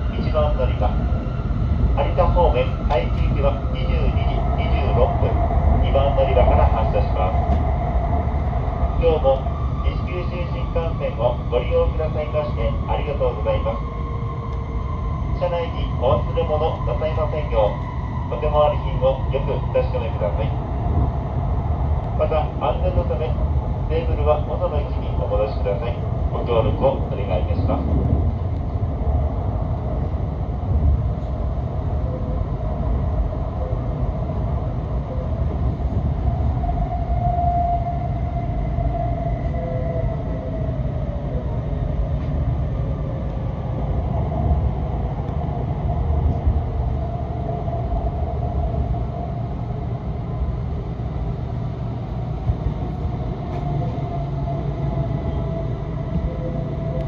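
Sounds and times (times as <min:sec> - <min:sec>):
low rumble of train wheels: 0:00.0 - 0:57.0.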